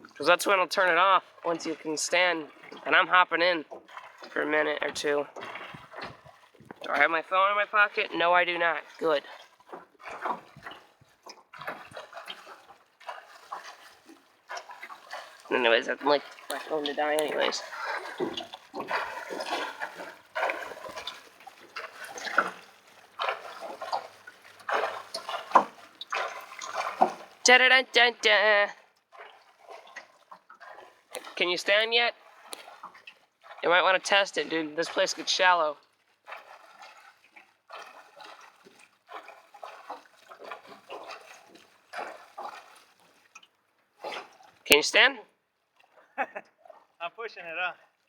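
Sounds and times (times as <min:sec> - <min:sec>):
water splashing from swimming strokes: 0:00.0 - 0:48.0.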